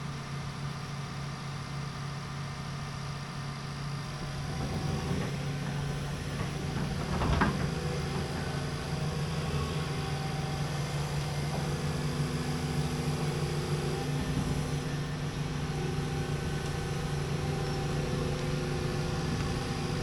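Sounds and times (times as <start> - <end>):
diesel excavator engine idling: 0.0 - 20.0.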